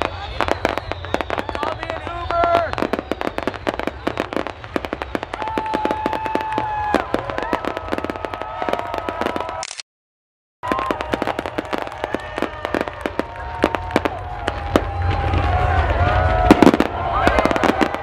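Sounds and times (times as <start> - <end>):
fireworks crackling: 0.0 - 9.6, 10.6 - 18.0
high whistling fireworks: 0.0 - 9.6, 10.6 - 18.0.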